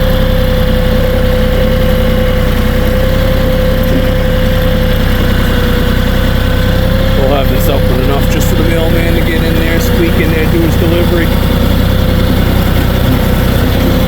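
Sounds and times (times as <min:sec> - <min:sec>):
steady whine: 0:00.0 - 0:14.0
tractor diesel engine running: 0:00.0 - 0:14.0.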